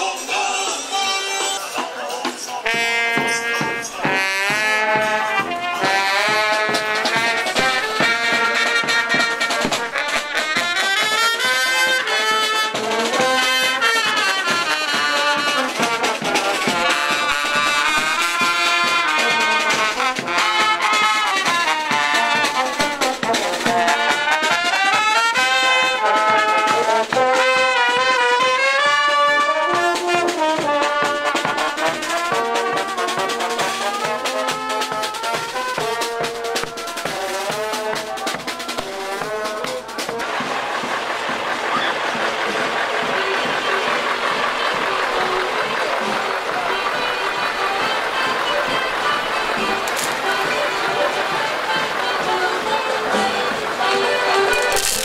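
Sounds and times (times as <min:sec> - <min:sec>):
marching brass band playing: 0:00.0 - 0:55.0.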